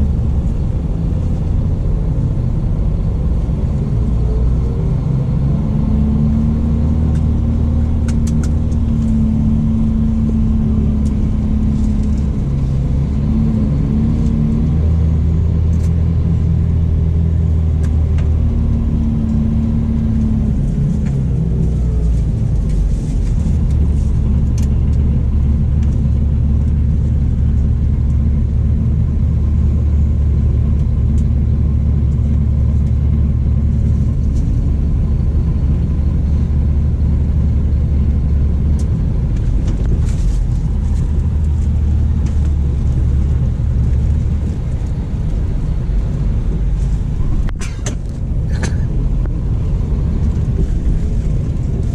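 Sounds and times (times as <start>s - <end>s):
coach engine low rumble: 0.0s - 51.9s.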